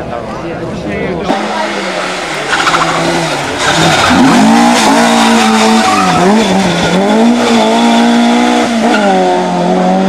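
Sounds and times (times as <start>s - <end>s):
rally car engine revving: 1.1s - 10.0s.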